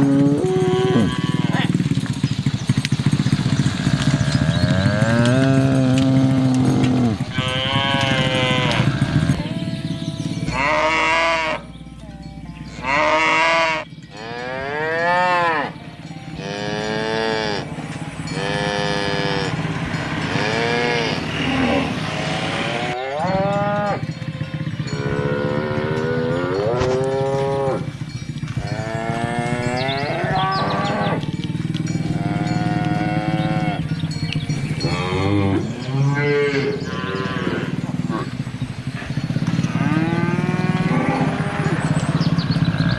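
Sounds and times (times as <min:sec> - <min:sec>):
cattle mooing: 0:00.0 - 0:02.2, 0:03.2 - 0:11.8, 0:12.6 - 0:24.2, 0:24.8 - 0:42.9.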